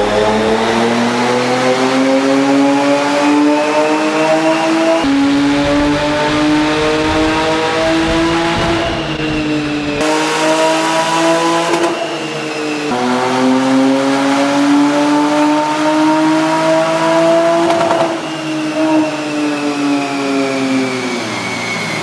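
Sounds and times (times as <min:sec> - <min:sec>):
sports car engine revving: 0:00.0 - 0:12.2, 0:12.8 - 0:19.2.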